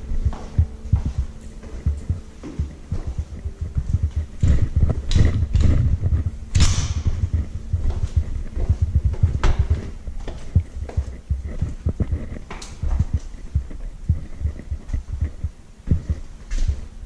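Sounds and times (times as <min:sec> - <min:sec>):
footsteps and handling thumps: 0:00.1 - 0:16.9.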